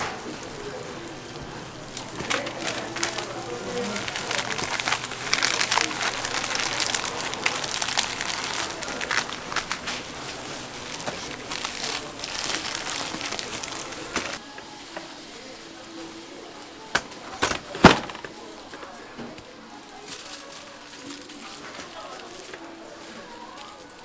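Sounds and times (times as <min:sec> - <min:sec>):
market voices: 0:00.0 - 0:24.0
rustles and clicks of rolling food: 0:00.0 - 0:24.0.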